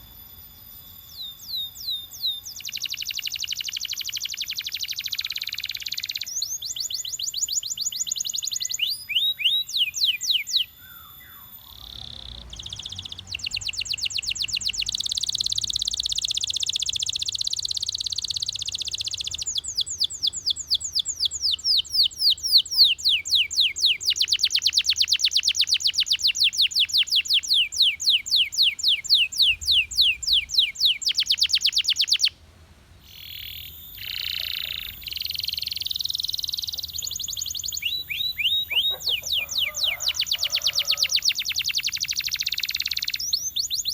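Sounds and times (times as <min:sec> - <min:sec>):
canary singing trills: 0:00.0 - 0:32.4, 0:33.0 - 0:43.9.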